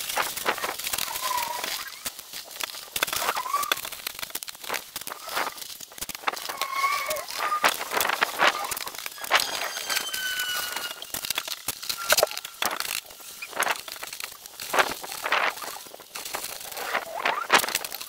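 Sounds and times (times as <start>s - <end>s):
plastic sheet crinkling: 0.0s - 18.0s.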